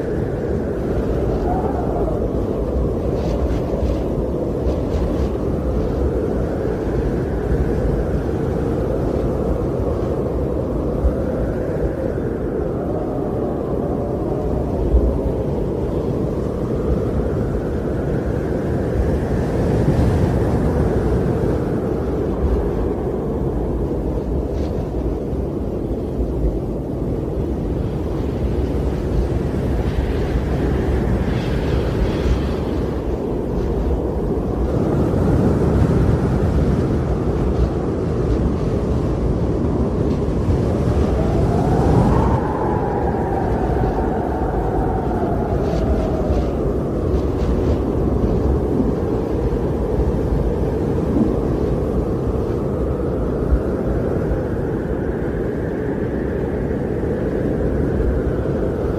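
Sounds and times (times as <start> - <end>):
faint howling tone: 0.0 - 58.9
wind blowing: 0.0 - 58.9.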